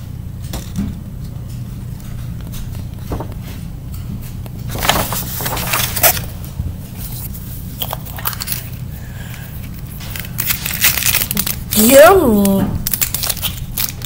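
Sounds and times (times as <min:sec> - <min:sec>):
steady low hum: 0:00.0 - 0:14.0
crackling and scraping handling noise: 0:00.4 - 0:12.0.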